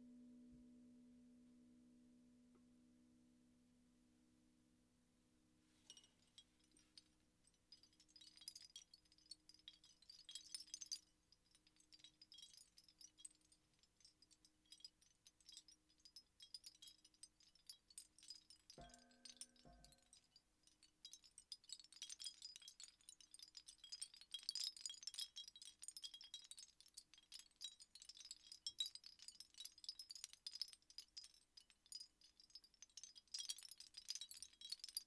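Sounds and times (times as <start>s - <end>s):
wind chimes jingling: 5.8s - 35.0s.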